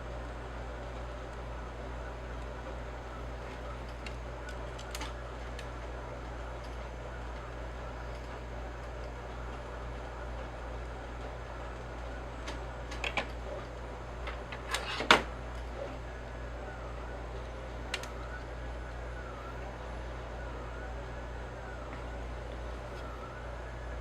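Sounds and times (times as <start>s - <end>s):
faint wailing siren: 0.0s - 24.0s.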